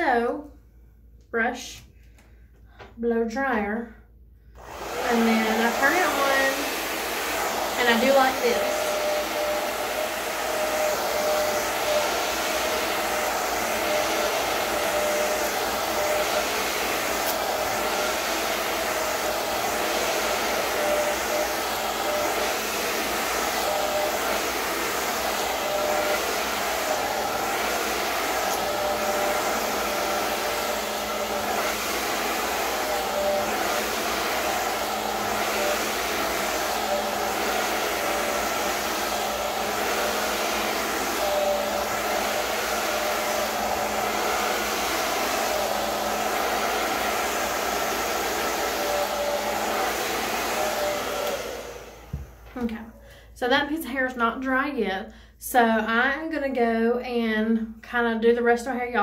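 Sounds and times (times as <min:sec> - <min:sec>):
blow dryer running: 0:04.5 - 0:53.4.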